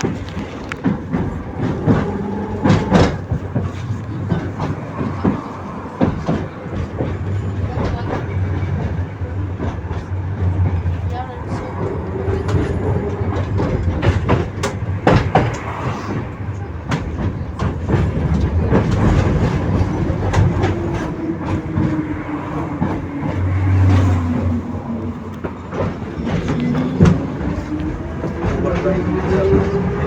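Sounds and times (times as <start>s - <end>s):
tram rumbling on track: 0.0s - 30.0s
wheels clacking over rail joints: 0.0s - 30.0s.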